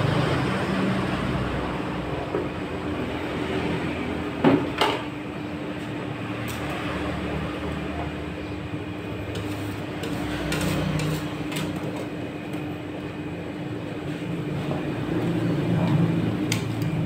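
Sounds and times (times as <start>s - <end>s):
refrigeration unit humming: 0.0s - 17.0s.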